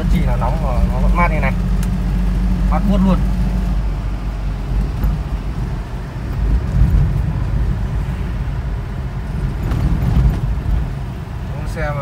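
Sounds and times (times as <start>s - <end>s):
minivan engine and road noise: 0.0s - 12.0s.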